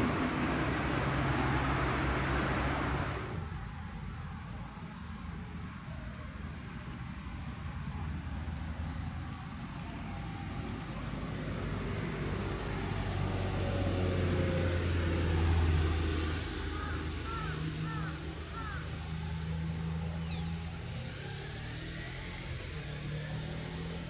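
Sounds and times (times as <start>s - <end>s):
vehicle passing: 0.0s - 4.7s, 6.8s - 24.0s
low rumble of road traffic: 0.0s - 24.0s.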